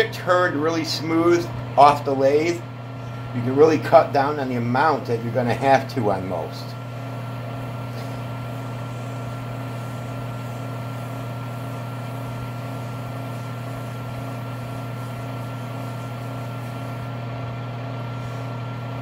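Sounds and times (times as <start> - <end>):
wood lathe humming and whining: 0.0 - 19.0.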